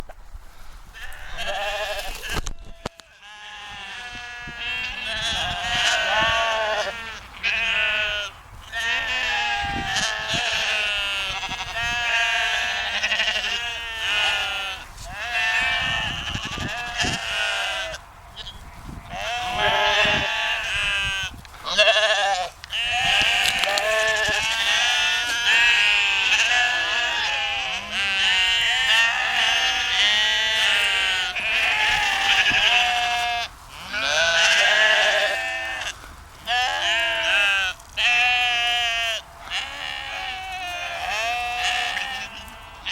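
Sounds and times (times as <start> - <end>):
sheep bleating: 1.0 - 42.9.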